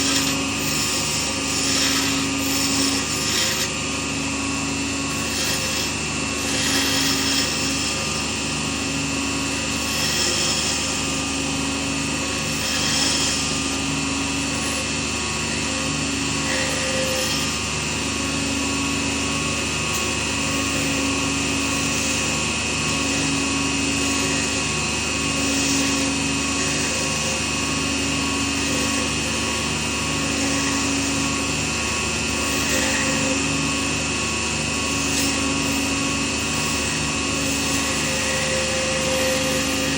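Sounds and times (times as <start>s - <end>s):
lathe motor whining: 0.0s - 39.9s.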